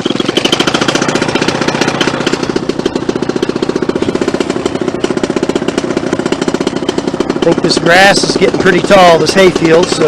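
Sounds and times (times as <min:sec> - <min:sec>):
two-stroke engine puttering: 0:00.0 - 0:10.0.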